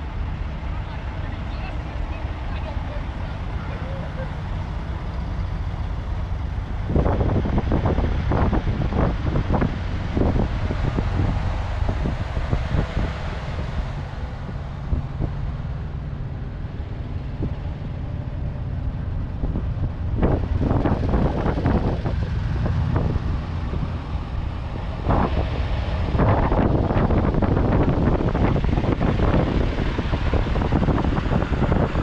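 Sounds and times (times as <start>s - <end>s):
vehicle engine rumble: 0.0s - 32.0s
wind buffeting microphone: 0.0s - 32.0s.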